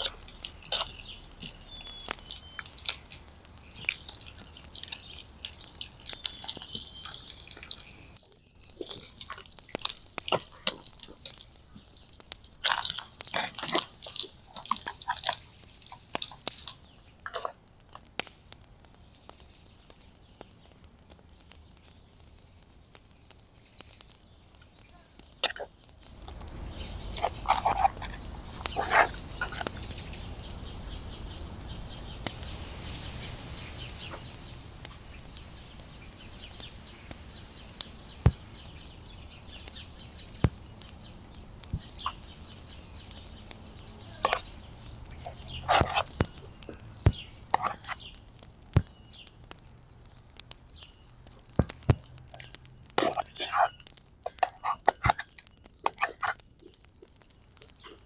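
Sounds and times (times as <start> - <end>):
close crunching and clicking: 0.0 - 58.0.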